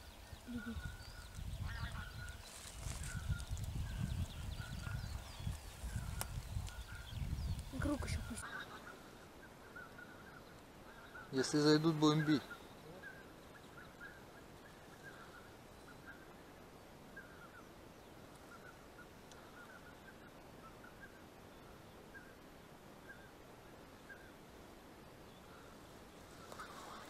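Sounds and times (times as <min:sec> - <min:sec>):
distant geese calling: 0:00.0 - 0:24.7, 0:25.4 - 0:27.0.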